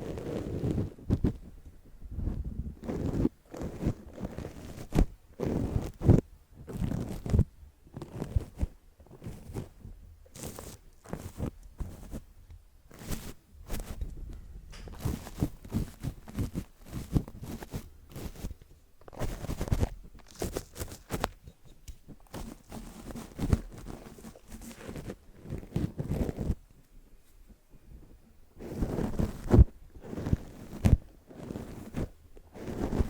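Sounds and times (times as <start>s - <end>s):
paintbrush scratching on microphone: 0.0s - 1.4s, 2.2s - 12.3s, 12.9s - 14.3s, 14.9s - 26.6s, 28.6s - 33.0s.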